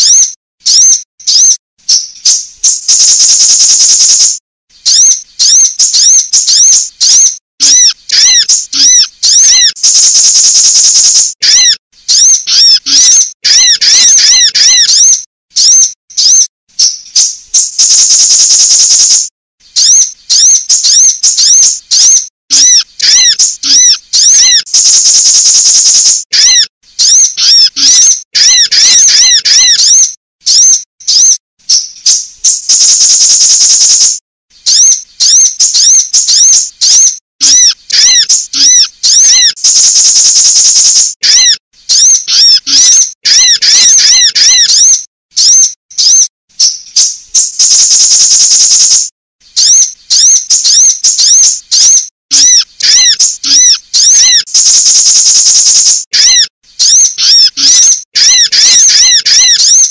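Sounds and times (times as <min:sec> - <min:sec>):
high buzzing bird trills: 0:00.0 - 0:59.9
sharp high bird chirps: 0:00.0 - 0:59.9.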